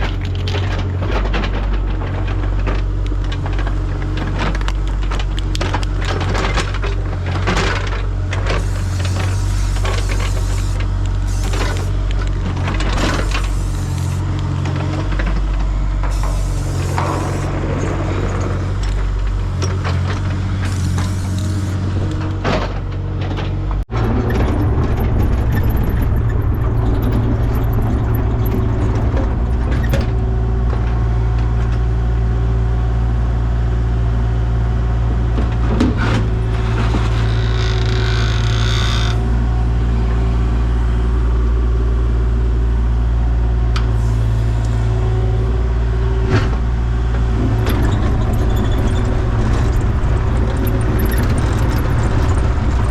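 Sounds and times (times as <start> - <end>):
heavy vehicle engine droning: 0.0 - 52.9.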